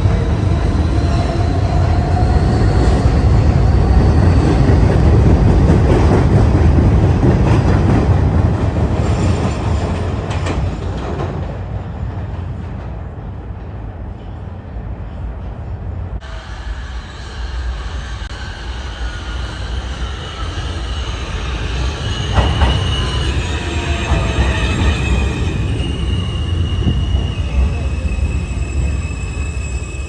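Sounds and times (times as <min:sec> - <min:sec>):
subway train rumbling past: 0:00.0 - 0:30.0.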